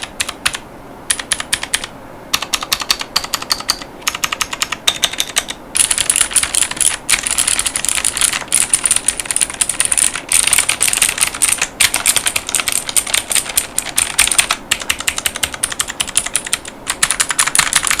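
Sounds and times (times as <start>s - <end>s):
fast mechanical keyboard typing: 0.0s - 18.0s.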